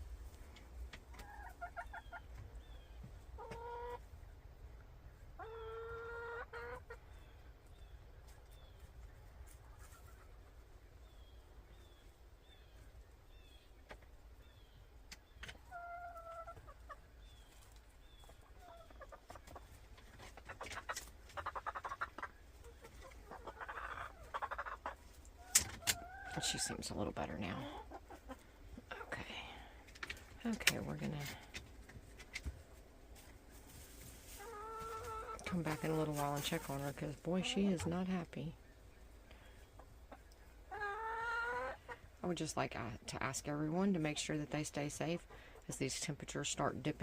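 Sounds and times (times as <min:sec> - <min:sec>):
hen clucking: 0:00.5 - 0:47.0.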